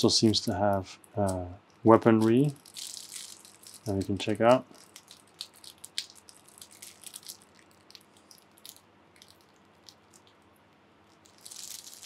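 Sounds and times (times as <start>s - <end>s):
plastic shrink-wrap crinkling: 0.0s - 10.4s, 11.1s - 12.0s.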